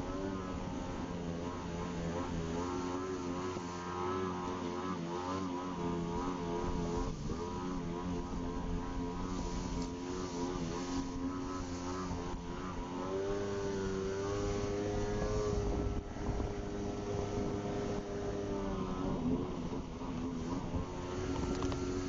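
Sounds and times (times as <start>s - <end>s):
jet ski engine running: 0.0s - 22.0s
low rumble of wind and water: 0.0s - 22.0s.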